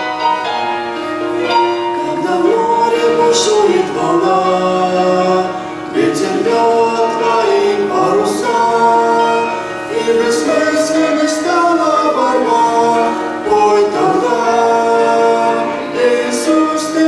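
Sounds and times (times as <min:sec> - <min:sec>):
choir singing a hymn: 0:01.5 - 0:17.0.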